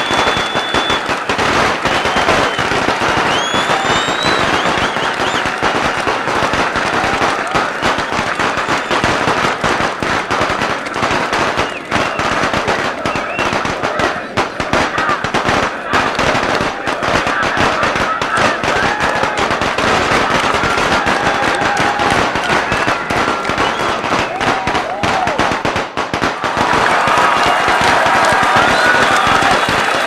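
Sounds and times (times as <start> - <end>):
crowd cheering and shouting: 0.0 - 30.0
firecrackers crackling: 0.0 - 30.0.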